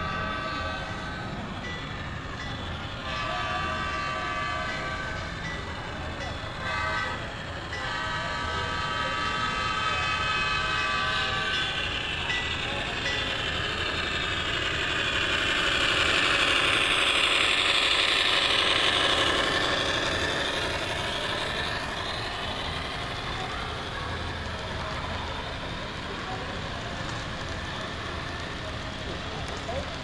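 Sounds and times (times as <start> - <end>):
model train rumbling past: 0.0 - 30.0.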